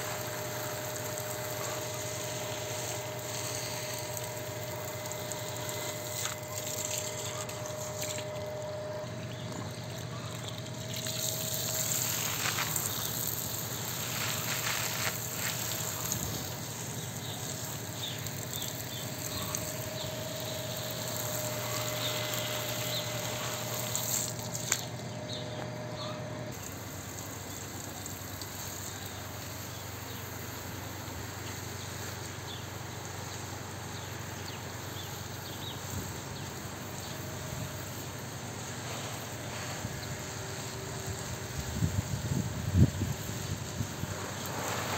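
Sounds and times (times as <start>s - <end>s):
water spraying from garden hose: 0.0s - 25.4s, 26.5s - 44.9s
steady hum: 0.0s - 44.9s.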